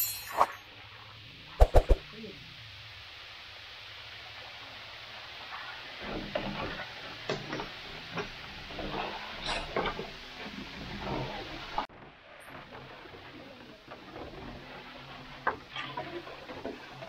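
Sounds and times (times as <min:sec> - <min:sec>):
boiling syrup hissing: 0:00.7 - 0:17.0.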